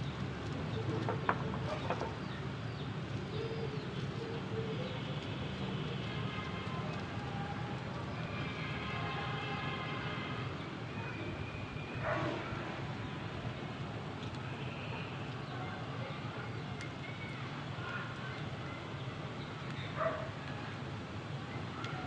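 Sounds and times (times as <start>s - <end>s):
faint distant voices: 0.0s - 22.0s
wood fire burning: 0.0s - 22.0s.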